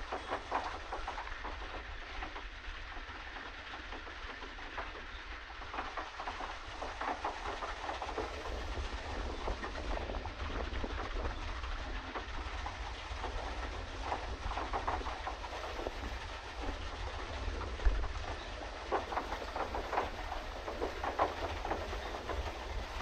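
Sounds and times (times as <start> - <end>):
paddle wheel churning water: 0.0 - 23.0.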